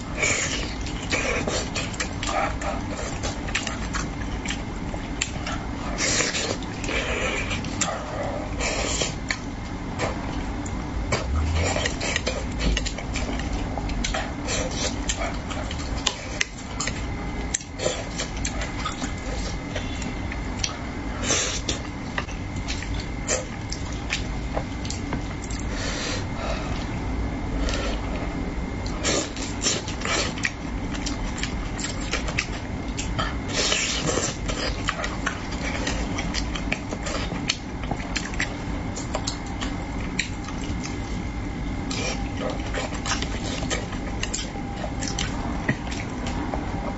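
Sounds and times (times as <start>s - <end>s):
wet chewing and lip-smacking: 0.0s - 27.0s, 27.6s - 46.9s.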